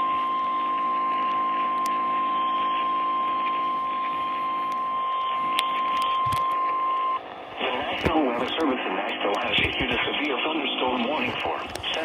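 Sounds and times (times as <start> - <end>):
radio hiss: 1.9 - 12.0.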